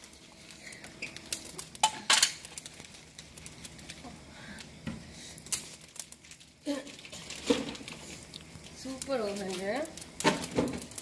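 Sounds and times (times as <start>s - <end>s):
burning charcoal crackling: 0.0s - 11.0s
sharp snaps and pops: 0.0s - 11.0s.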